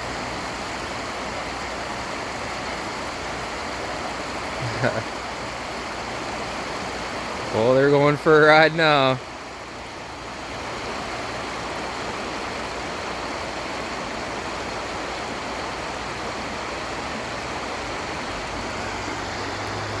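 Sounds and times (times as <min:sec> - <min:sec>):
flowing river water: 0:00.0 - 0:20.0.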